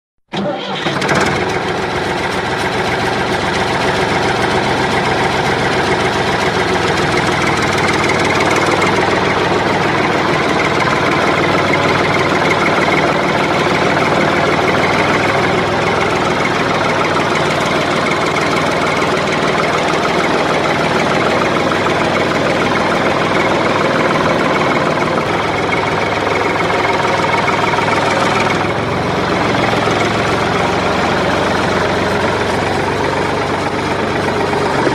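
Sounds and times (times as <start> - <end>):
engine running steadily: 0.3 - 34.9.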